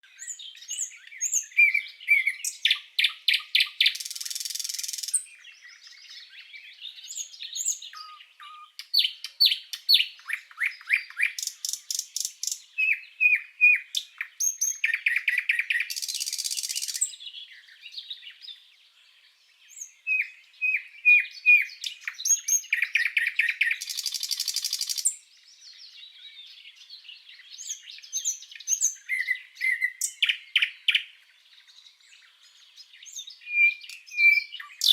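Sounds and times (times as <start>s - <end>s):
nightingale singing: 0.0s - 34.9s.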